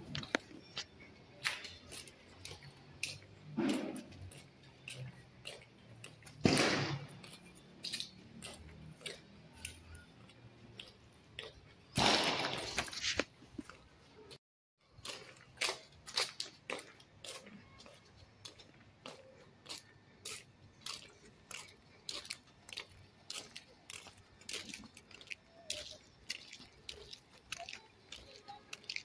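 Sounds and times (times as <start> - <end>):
footsteps on brick paving: 0.0 - 29.0.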